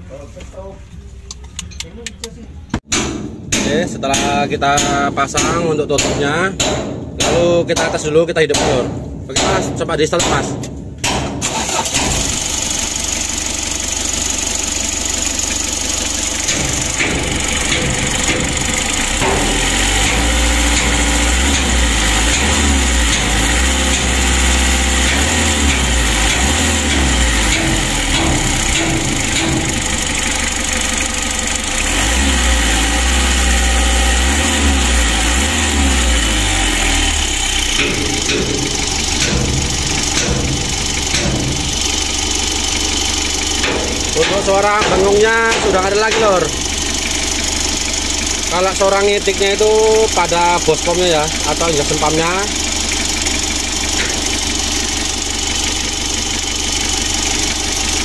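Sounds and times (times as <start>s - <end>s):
diesel engine running: 0.0s - 58.0s
engine ticking: 0.0s - 58.0s.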